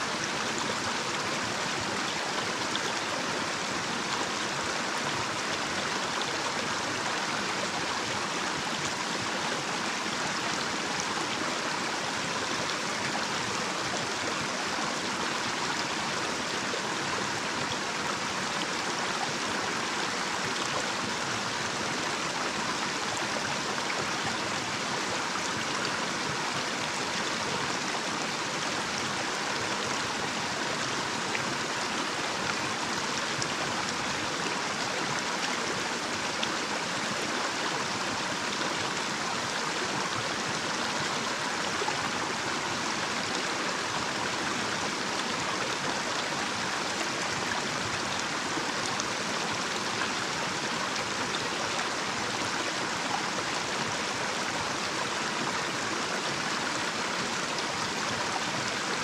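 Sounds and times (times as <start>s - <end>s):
stream flowing over cascade: 0.0s - 59.0s.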